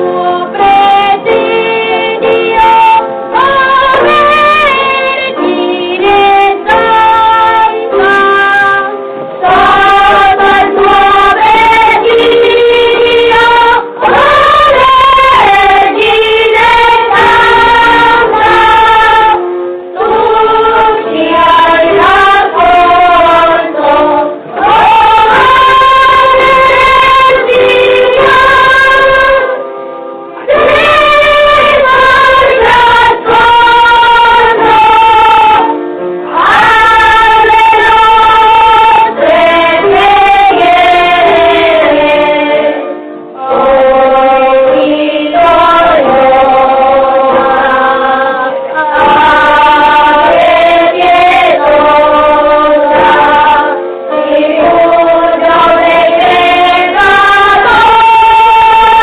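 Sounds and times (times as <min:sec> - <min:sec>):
children's choir singing: 0:00.0 - 0:29.7, 0:30.3 - 0:59.0.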